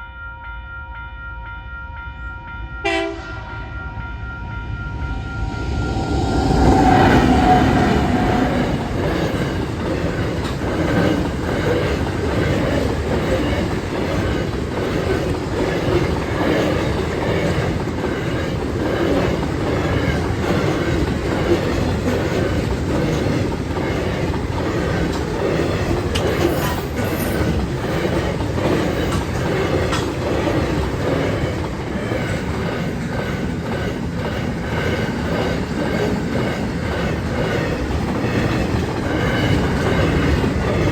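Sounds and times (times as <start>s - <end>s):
freight train rumbling past: 1.9s - 40.9s
wheels clacking on rails: 4.4s - 40.9s.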